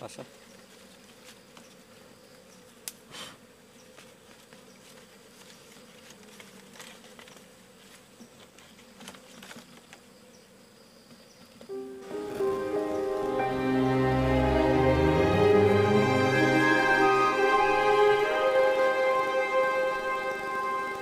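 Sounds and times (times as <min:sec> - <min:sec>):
bees humming: 0:00.0 - 0:21.0.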